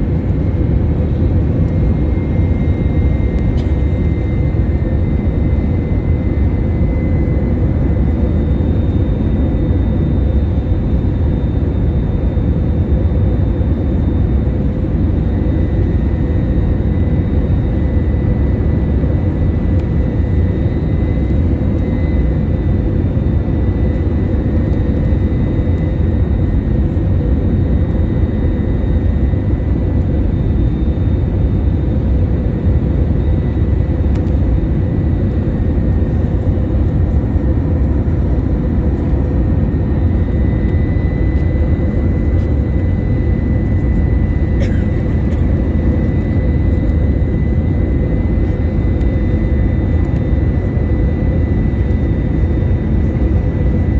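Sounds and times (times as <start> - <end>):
aircraft cabin engine rumble: 0.0 - 53.9
faint steady whine: 0.0 - 53.9.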